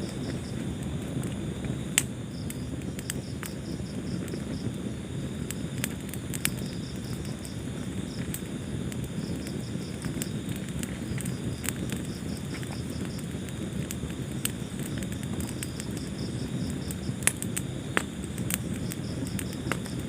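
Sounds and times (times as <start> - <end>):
crickets chirping: 0.0 - 20.0
wood fire crackling: 0.0 - 20.0.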